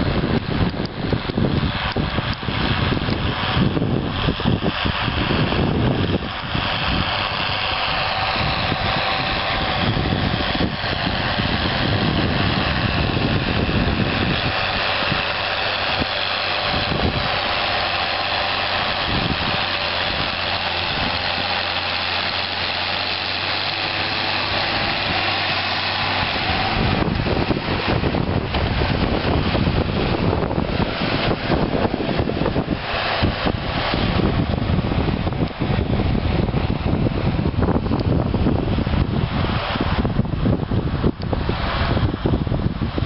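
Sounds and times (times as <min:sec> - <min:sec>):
tractor diesel engine under load: 0:00.0 - 0:43.0
wind buffeting microphone: 0:00.0 - 0:43.0.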